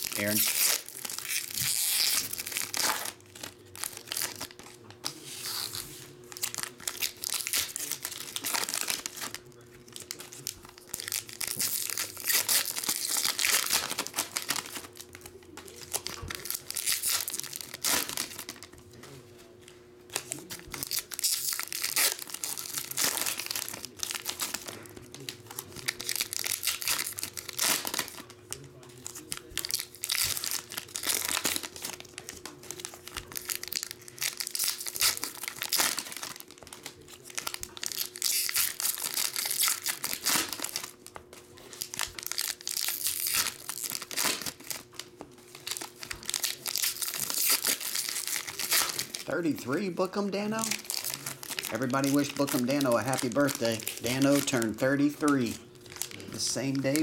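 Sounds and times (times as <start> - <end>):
foil packs tearing and crinkling: 0.0 - 18.8, 20.1 - 57.0.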